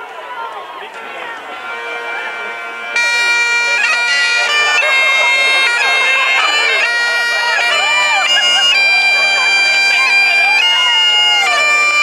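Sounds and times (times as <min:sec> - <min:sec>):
bagpipes playing a tune: 0:00.9 - 0:12.0.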